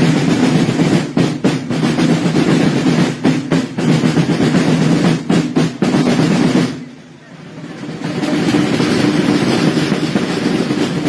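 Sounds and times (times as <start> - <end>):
marching drum roll: 0.0 - 11.0.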